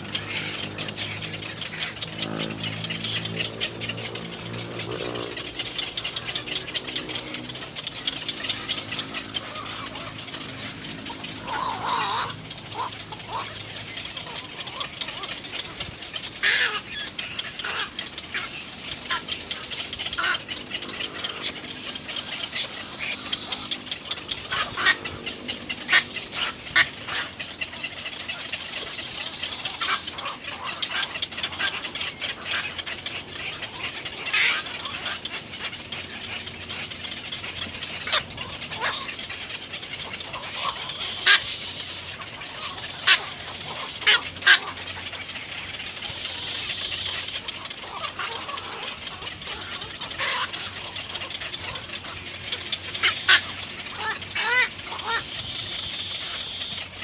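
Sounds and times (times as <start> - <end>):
egrets calling: 0.0 - 57.0.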